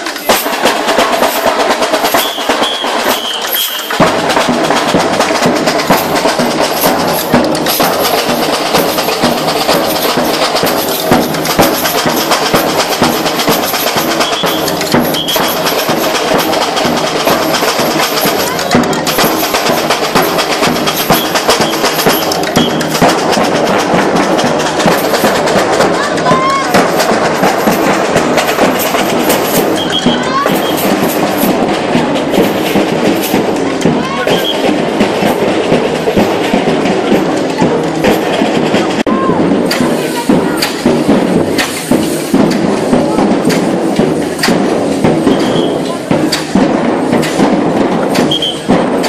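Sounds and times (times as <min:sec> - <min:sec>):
percussion band drumming: 0:00.0 - 0:49.0
deep bass drums: 0:04.0 - 0:49.0.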